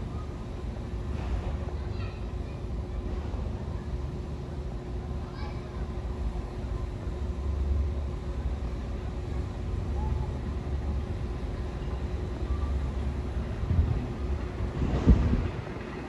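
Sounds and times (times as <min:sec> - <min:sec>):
faint hum: 0:00.0 - 0:16.0
subway train rumbling: 0:00.0 - 0:16.0.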